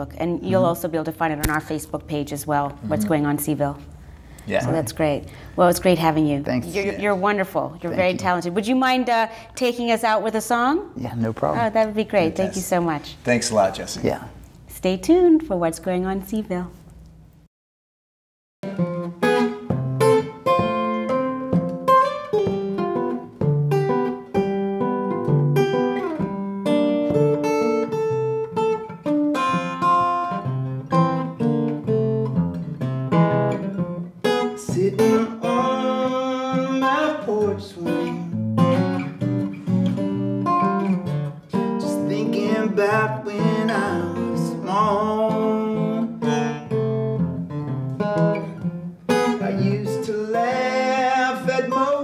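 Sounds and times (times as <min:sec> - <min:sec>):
fingerpicked acoustic guitar: 0:00.0 - 0:08.6, 0:18.6 - 0:52.0.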